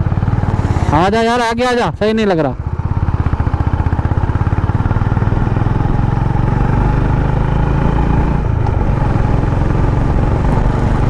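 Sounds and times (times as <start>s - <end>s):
motorcycle engine chugging: 0.0s - 11.0s.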